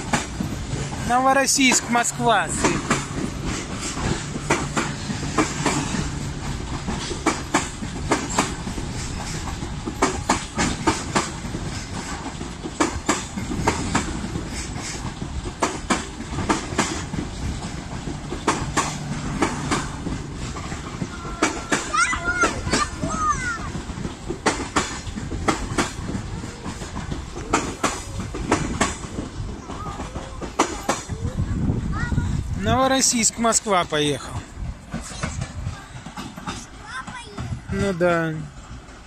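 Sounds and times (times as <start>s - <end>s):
train rumble: 0.0s - 39.0s
train wheels clacking over rail joints: 0.0s - 39.0s.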